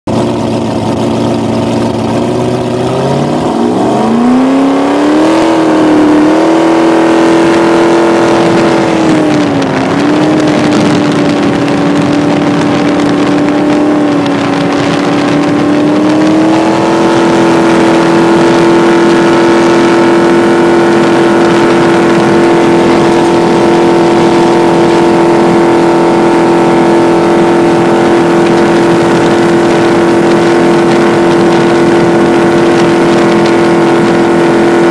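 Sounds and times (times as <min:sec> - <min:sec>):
jet boat engine revving: 0:00.1 - 0:34.9.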